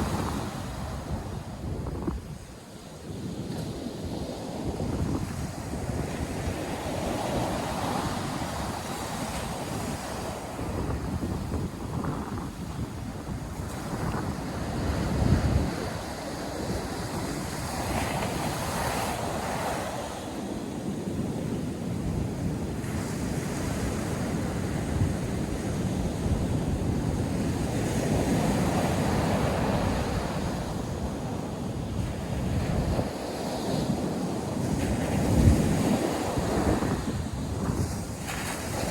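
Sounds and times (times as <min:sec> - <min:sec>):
surf washing onto beach: 0:00.0 - 0:38.9
wind buffeting microphone: 0:00.0 - 0:38.9.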